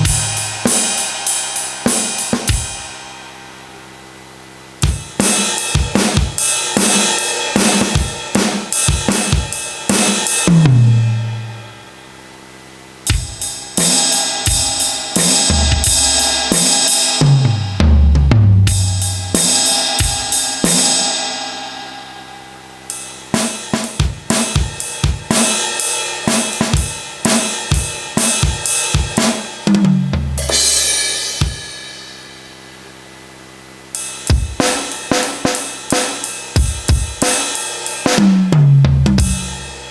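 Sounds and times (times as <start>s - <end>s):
crash cymbals ringing: 0.0s - 18.1s, 18.7s - 29.7s, 30.4s - 38.2s
electronic drum toms: 0.0s - 39.9s.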